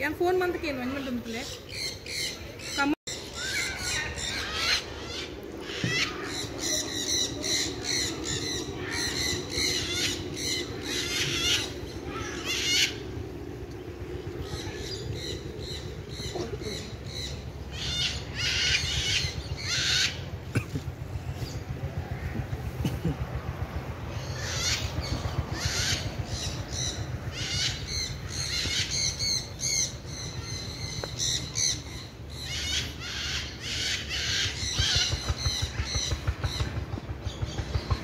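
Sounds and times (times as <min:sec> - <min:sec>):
birds squawking: 0:00.7 - 0:23.0, 0:24.1 - 0:38.0.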